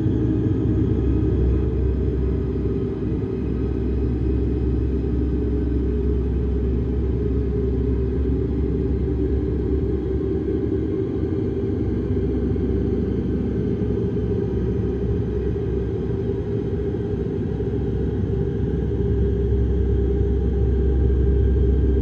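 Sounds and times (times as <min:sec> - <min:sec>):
low rumbling drone: 0:00.0 - 0:22.0.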